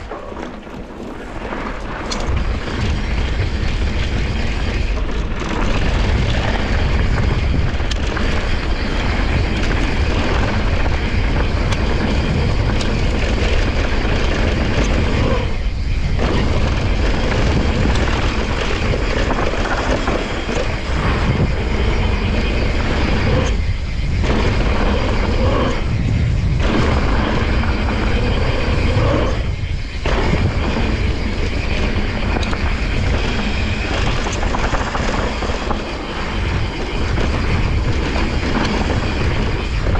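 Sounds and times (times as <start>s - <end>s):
bike tyres rolling on loose dirt: 0.0s - 39.9s
wind buffeting camera microphone: 0.0s - 39.9s.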